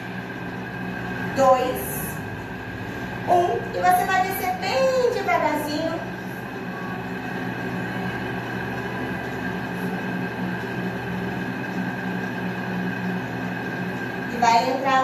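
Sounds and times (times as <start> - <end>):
droning hum of held tones: 0.0 - 15.0.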